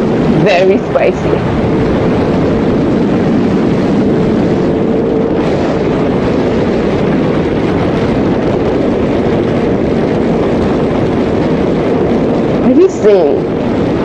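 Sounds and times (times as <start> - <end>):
wind noise rushing: 0.0 - 14.0.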